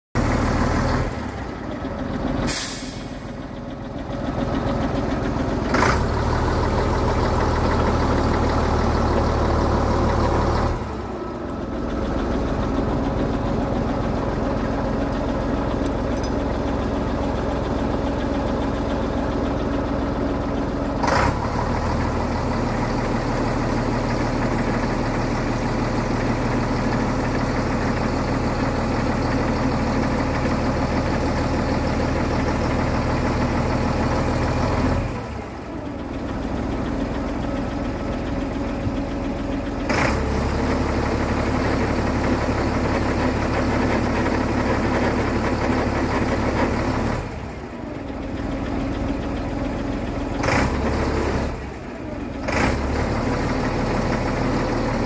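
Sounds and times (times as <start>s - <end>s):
diesel truck engine running: 0.2s - 55.0s.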